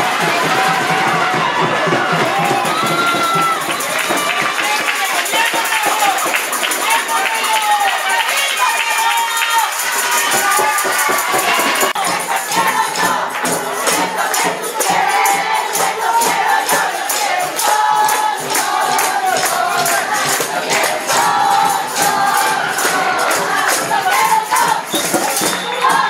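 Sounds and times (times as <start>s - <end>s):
crowd noise: 0.0s - 26.0s
group of voices singing: 0.0s - 26.0s
shaken percussion beat: 0.0s - 26.0s.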